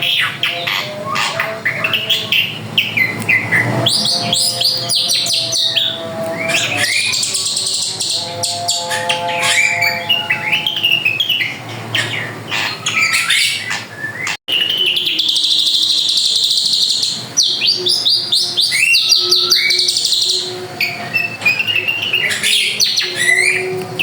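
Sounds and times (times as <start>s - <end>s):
bird singing whistled notes: 0.0s - 24.0s.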